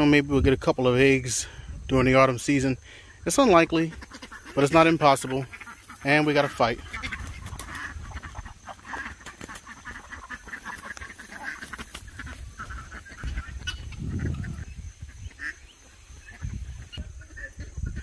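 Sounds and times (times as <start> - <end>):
poultry squawks and honking calls: 3.0 - 18.0.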